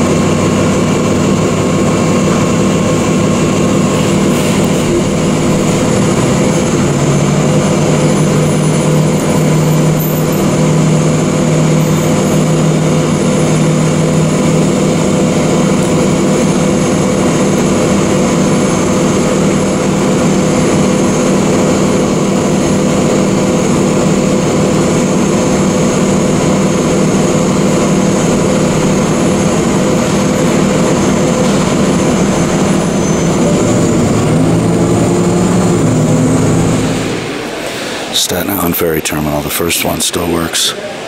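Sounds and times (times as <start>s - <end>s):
low hum: 0.0s - 40.0s
large vehicle engine drone: 0.0s - 41.0s.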